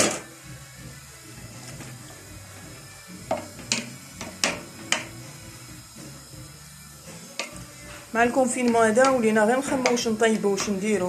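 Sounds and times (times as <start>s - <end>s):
tomatoes sizzling: 0.0s - 11.0s.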